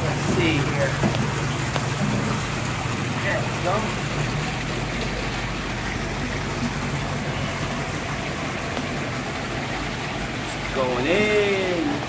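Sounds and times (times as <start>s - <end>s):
water rushing in aquarium: 0.0s - 12.0s.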